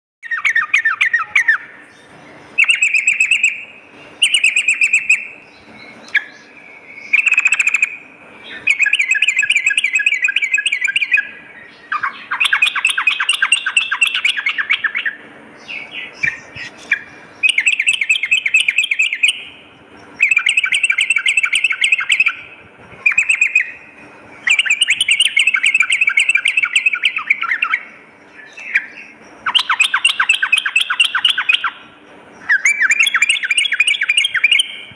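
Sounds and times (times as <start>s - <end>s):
bird song chattering: 0.2s - 34.9s.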